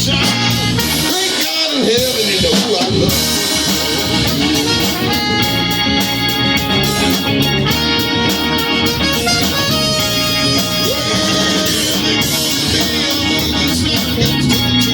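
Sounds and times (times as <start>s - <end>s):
live rock band playing: 0.0s - 14.9s.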